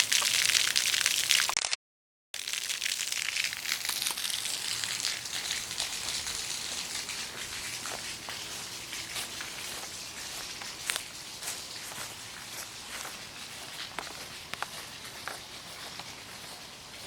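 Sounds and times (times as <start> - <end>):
floodwater rushing hiss: 0.0 - 1.5, 2.4 - 17.0.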